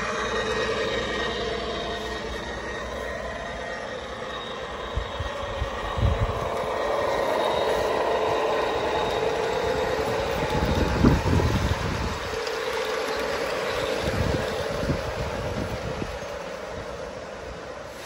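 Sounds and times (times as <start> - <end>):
faint high whine: 0.0 - 18.0
model train diesel engine sound: 0.0 - 18.0
model train wheels rumbling: 0.0 - 18.0.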